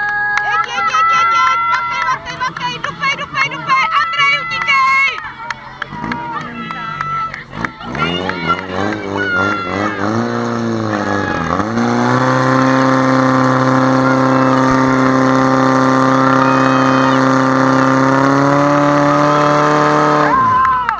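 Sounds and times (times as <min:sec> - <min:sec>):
pump engine at full throttle: 0:00.0 - 0:20.9.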